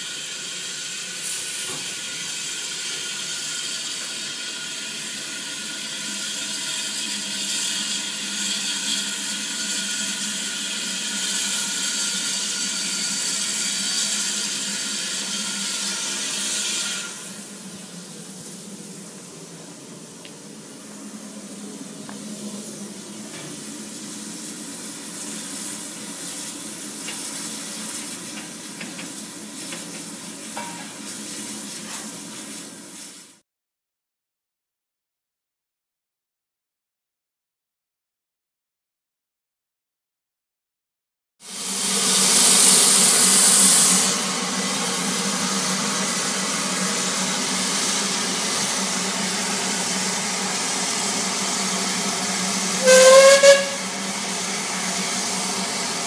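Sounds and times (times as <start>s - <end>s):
steam locomotive hissing steam: 0.0s - 33.4s, 41.4s - 56.0s.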